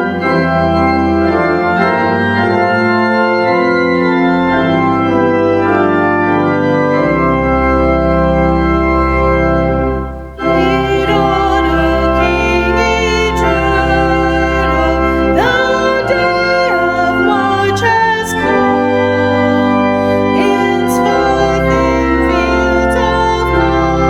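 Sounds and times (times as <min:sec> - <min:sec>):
organ playing sustained chords: 0:00.0 - 0:24.0.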